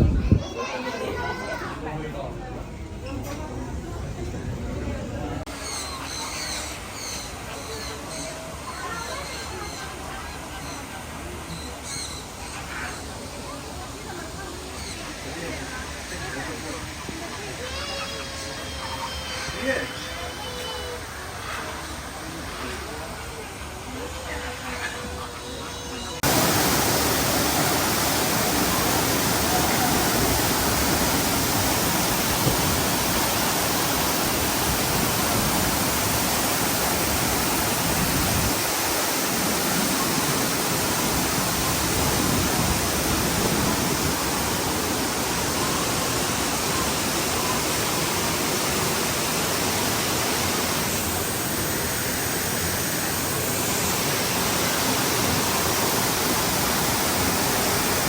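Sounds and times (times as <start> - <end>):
rush of falling water: 5.4 - 58.0.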